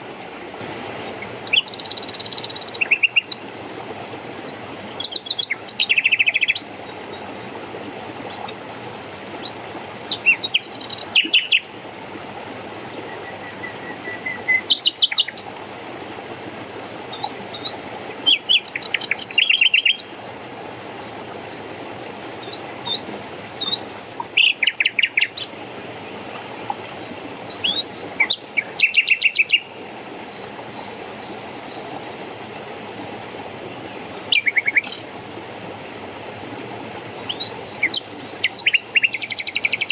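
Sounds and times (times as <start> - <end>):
running water rushing: 0.0 - 39.9
songbirds chirping: 1.2 - 11.8, 12.4 - 20.5, 21.3 - 35.2, 37.0 - 39.9.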